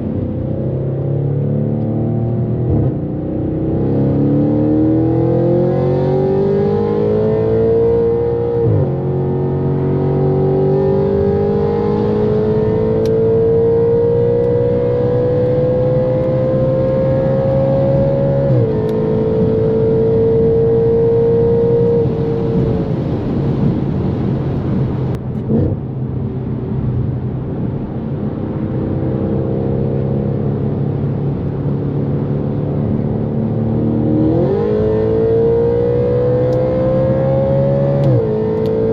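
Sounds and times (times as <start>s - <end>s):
car engine accelerating: 0.0s - 38.9s
wind and road noise: 0.0s - 38.9s.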